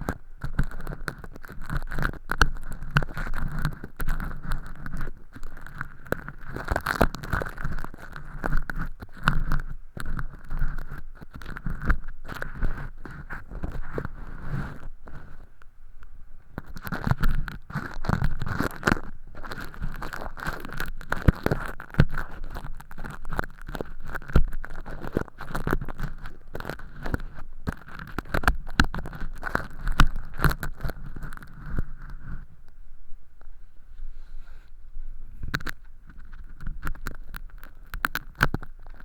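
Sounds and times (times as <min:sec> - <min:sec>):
earpick scraping: 0:00.0 - 0:32.8, 0:33.4 - 0:39.0.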